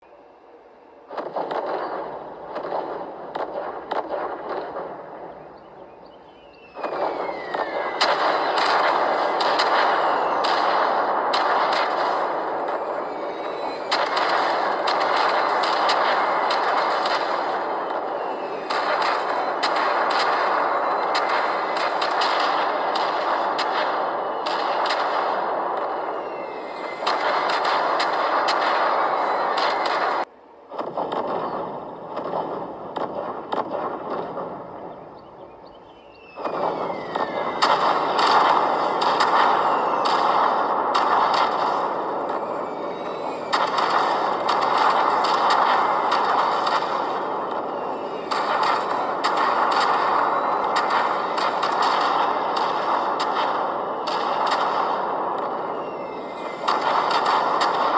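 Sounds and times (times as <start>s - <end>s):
falling whistle: 0.0s - 30.3s, 31.1s - 57.9s
rumbling haze: 0.0s - 57.9s
action soundtrack from phone speakers: 1.0s - 26.2s, 27.0s - 55.6s, 56.6s - 57.9s
bangs and cracks over loudspeakers: 1.0s - 57.9s.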